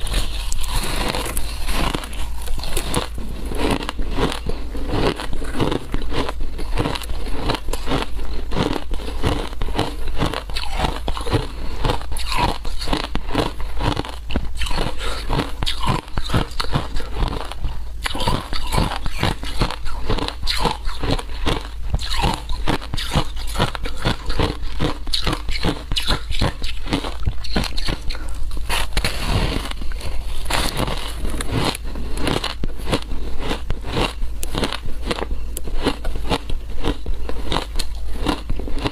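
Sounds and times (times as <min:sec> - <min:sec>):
shaved ice crunching when chewed: 0:00.0 - 0:38.9.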